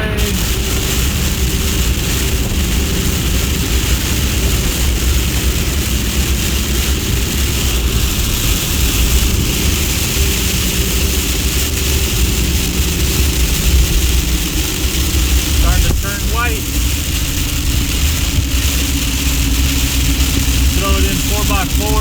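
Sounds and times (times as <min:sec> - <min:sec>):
engine and road noise rumble: 0:00.0 - 0:22.0
hail and rain hitting vehicle: 0:00.0 - 0:22.0.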